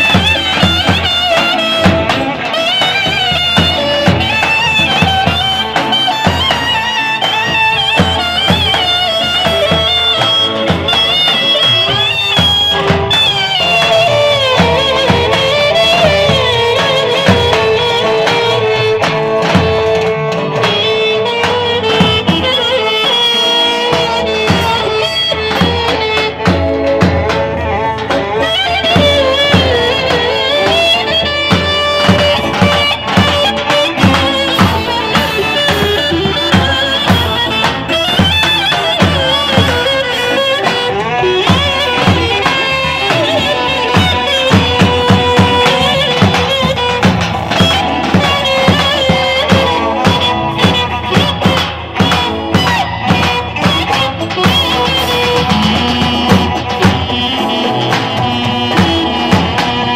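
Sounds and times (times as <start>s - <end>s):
clarinet melody: 0.0s - 59.9s
large drum beats: 0.0s - 59.9s.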